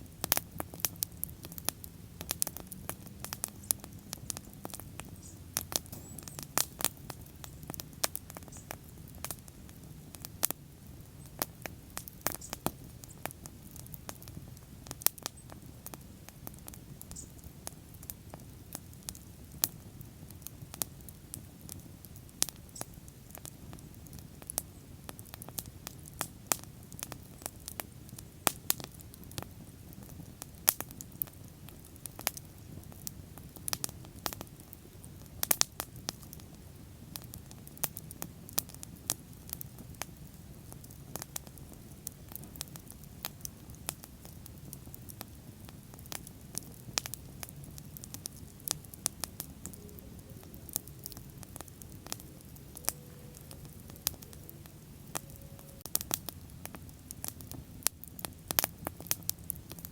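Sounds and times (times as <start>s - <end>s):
bonfire crackling and popping: 0.0s - 59.9s
low rumble of flames: 0.0s - 59.9s.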